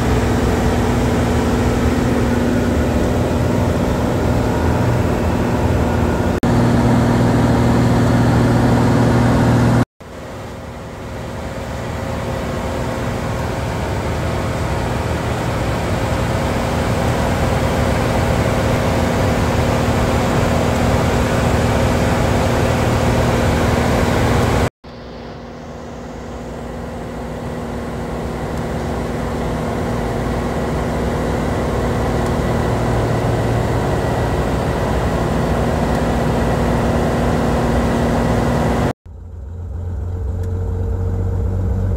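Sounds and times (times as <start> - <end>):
propeller plane engine drone in cabin: 0.0 - 41.9.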